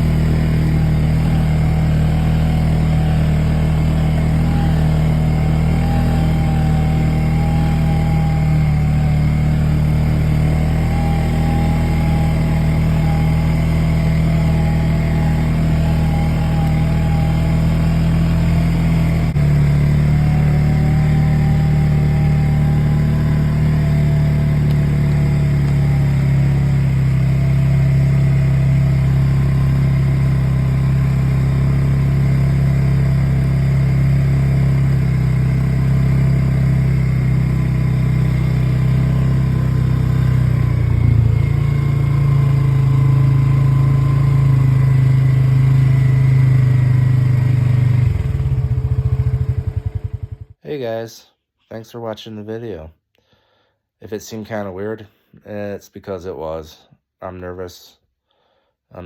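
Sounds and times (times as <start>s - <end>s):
quad engine running: 0.0s - 50.6s.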